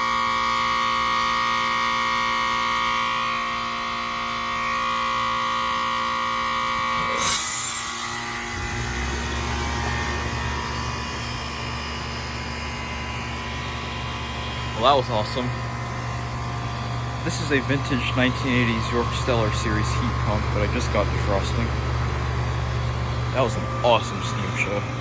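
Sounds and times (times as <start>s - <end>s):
compressor high-pitched whine: 0.0s - 25.0s
fan low hum: 4.0s - 25.0s.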